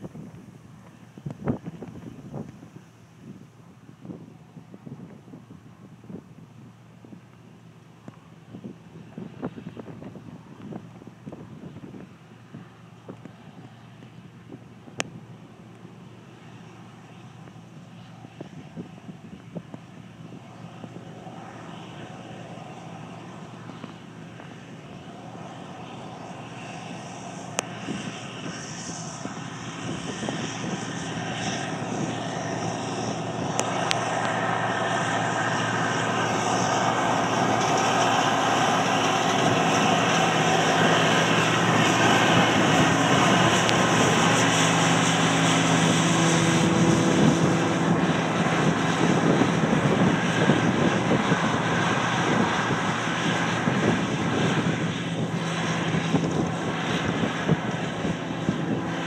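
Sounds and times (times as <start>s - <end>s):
combine harvester engine droning: 0.0s - 59.0s.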